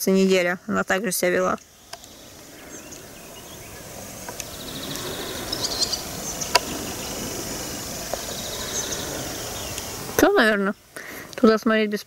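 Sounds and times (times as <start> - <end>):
bird chirping: 0.1 - 12.0
insect trilling in pulses: 1.5 - 11.3.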